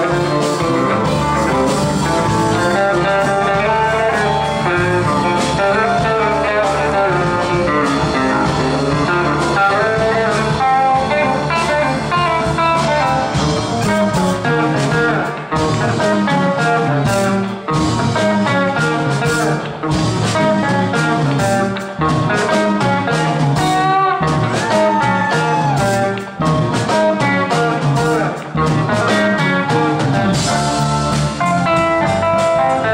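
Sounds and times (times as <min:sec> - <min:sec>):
blues-rock band playing: 0:00.0 - 0:32.9.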